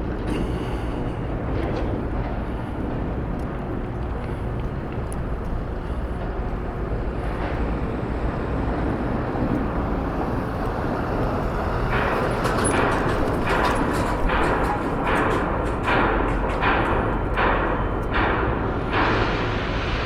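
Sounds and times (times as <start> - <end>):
vehicle road and engine rumble: 0.0 - 20.0.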